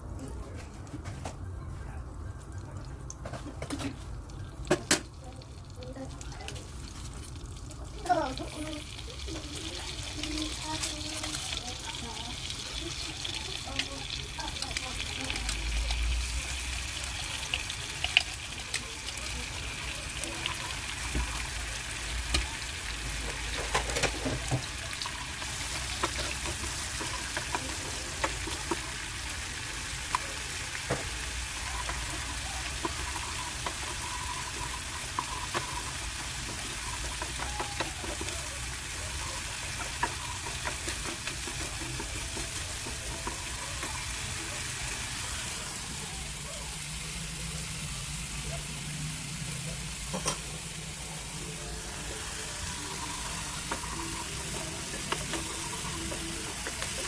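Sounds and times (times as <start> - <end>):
food sizzling in a pan: 3.5 - 57.0.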